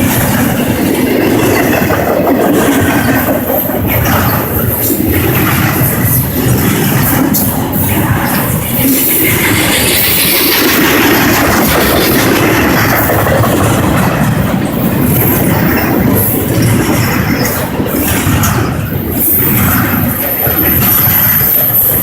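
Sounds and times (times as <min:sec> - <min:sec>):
freight train wheels clattering: 0:00.0 - 0:22.0.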